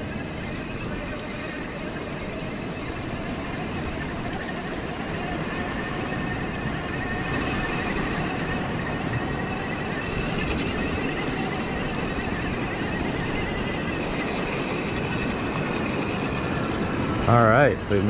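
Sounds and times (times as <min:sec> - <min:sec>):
electric bike motor whine: 0:00.0 - 0:18.0
riding noise rush: 0:00.0 - 0:18.0.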